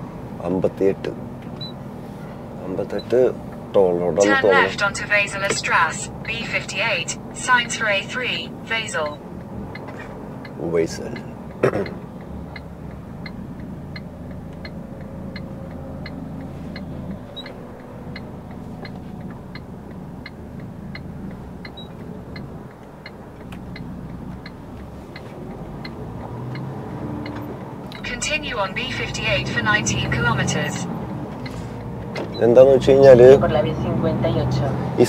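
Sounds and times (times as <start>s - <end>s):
diesel engine humming: 0.0s - 35.0s
turn signal ticking: 0.1s - 35.0s.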